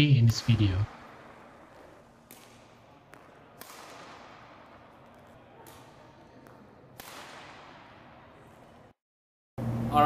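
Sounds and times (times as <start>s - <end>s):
rackets hitting shuttlecock: 0.3s - 8.5s.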